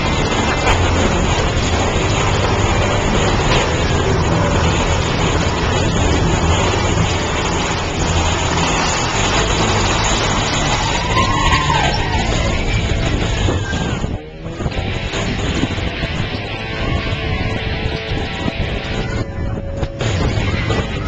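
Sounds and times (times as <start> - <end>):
roller coaster rumbling on track: 0.0 - 21.0.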